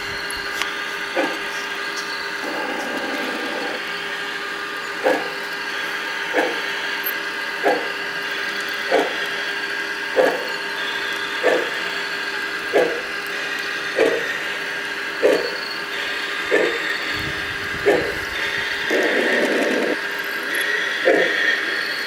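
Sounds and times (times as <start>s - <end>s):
steady hum: 0.0s - 21.4s
model steam locomotive chuffing: 0.0s - 22.0s.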